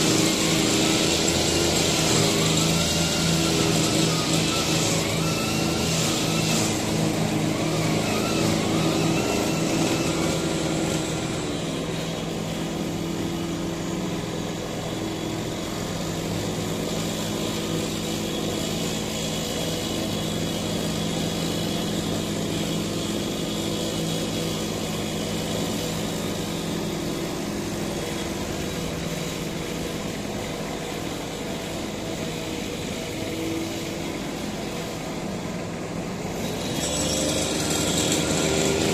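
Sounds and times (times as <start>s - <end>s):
brush cutter engines droning: 0.0s - 38.9s.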